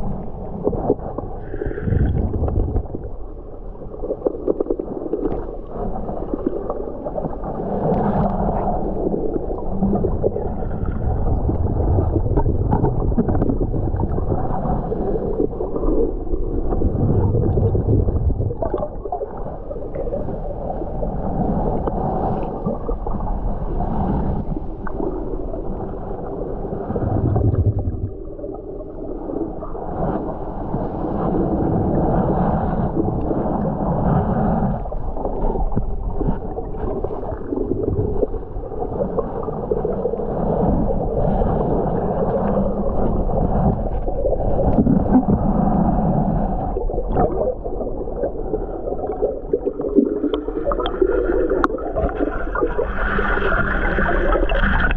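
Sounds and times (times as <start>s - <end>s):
underwater rumbling and gurgling: 0.0s - 54.9s.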